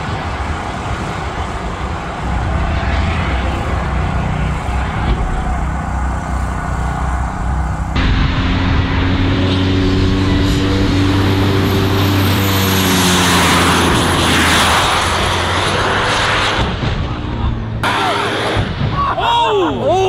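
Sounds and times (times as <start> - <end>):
turbojet engines rushing and whining: 0.0 - 20.0.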